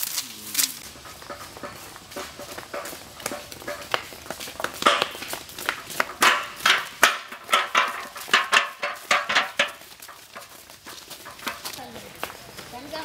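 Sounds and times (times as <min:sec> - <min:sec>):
children's footsteps: 0:00.0 - 0:13.0
metal cooking pots knocking: 0:00.8 - 0:11.8.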